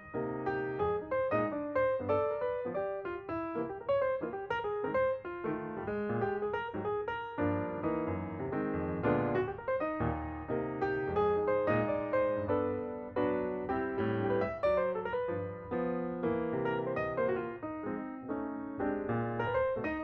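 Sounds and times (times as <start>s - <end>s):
lively piano melody: 0.0s - 20.0s.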